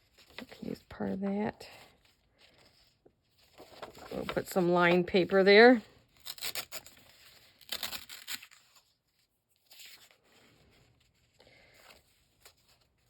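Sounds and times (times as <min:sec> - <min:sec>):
paper rustling: 0:00.0 - 0:01.0, 0:01.7 - 0:13.0.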